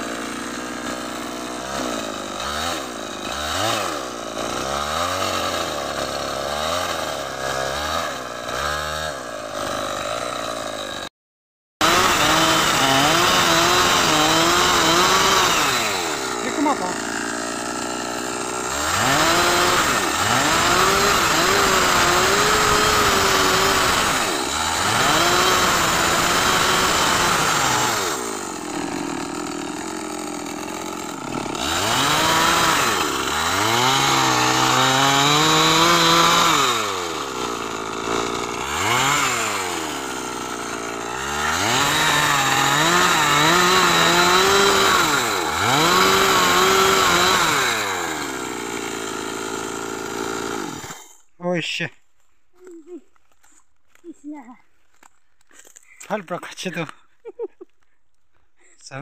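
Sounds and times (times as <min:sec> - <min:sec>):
chainsaw revving and cutting wood: 0:00.0 - 0:11.1, 0:11.8 - 0:51.4, 0:52.6 - 0:59.0.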